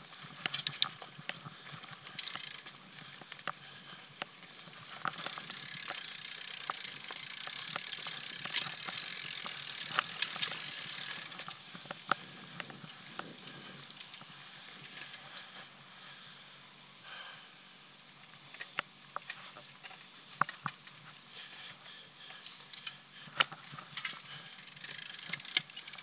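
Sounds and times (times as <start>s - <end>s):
bike clicking and rattling: 0.0s - 16.5s, 18.3s - 26.0s.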